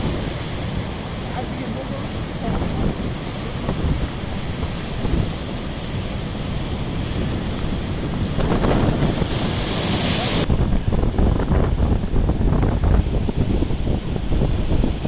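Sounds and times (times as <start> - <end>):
storm surf breaking on shore: 0.0 - 15.0
wind buffeting microphone: 0.0 - 15.0.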